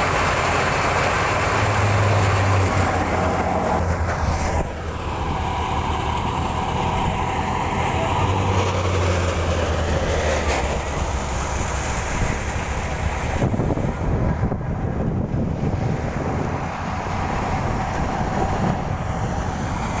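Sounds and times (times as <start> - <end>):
engine rumble: 0.0 - 20.0
wind blowing across microphone: 1.9 - 20.0.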